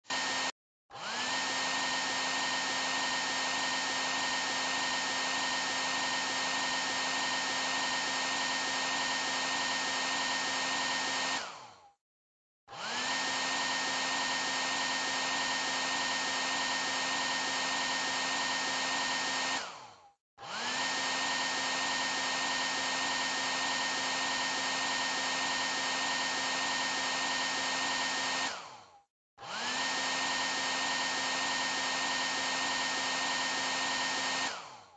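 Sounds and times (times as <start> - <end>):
hair dryer whirring: 0.0 - 12.0, 12.7 - 34.9.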